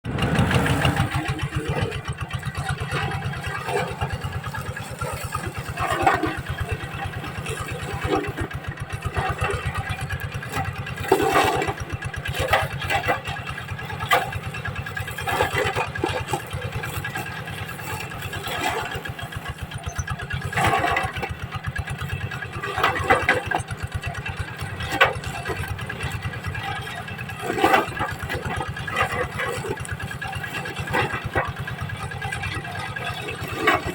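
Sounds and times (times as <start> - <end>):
machine engine running: 0.0 - 33.9.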